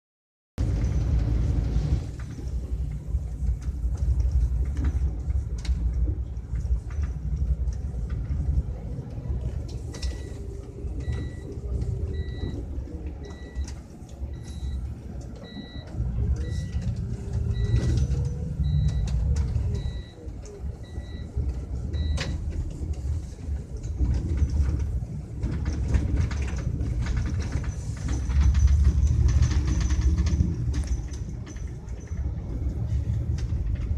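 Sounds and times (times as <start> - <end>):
vehicle rumble from inside cabin: 0.6 - 33.9.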